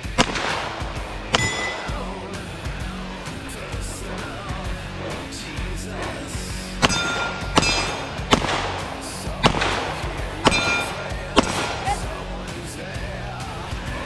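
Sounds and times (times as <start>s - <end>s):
gunshots: 0.0s - 12.6s
background music: 0.0s - 14.0s.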